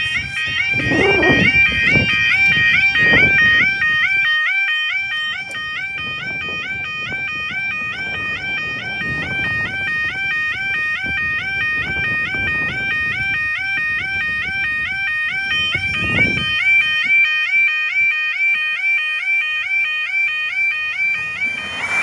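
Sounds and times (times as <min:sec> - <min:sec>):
level crossing two-tone alarm: 0:00.0 - 0:22.0.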